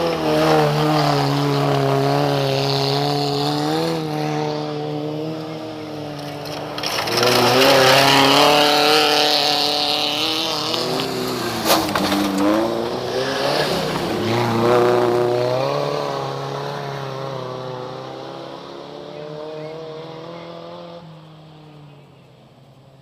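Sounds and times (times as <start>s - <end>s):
race car engines at high revs: 0.0s - 23.0s.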